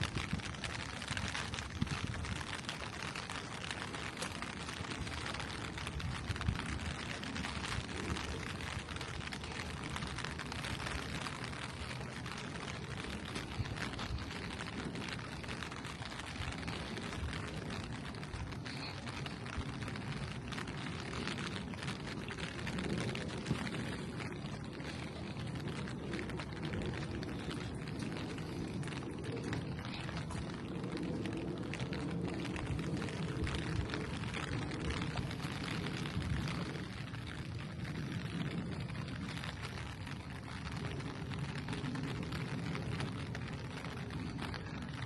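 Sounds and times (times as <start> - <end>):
steady rain on a street: 0.0 - 45.0.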